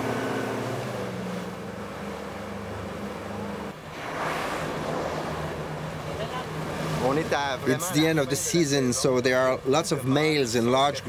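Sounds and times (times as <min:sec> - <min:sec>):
outboard motor running: 0:00.0 - 0:09.7
water rushing past hull: 0:00.0 - 0:11.0.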